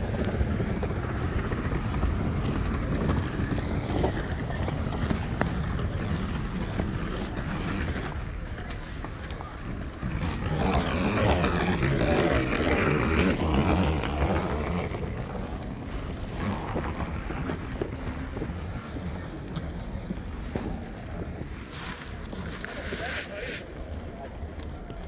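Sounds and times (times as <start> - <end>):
people walking past: 0.0 - 25.0
wind rumbling on microphone: 0.0 - 25.0.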